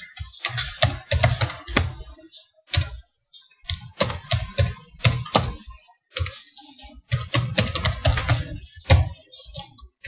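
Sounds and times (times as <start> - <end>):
keyboard typing clicks: 0.0 - 3.0, 3.6 - 10.0.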